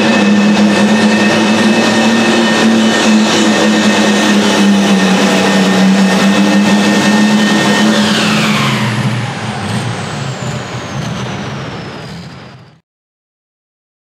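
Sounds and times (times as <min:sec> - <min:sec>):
tractor engine running flat out: 0:00.0 - 0:12.8
turbo whine winding down: 0:00.0 - 0:12.8.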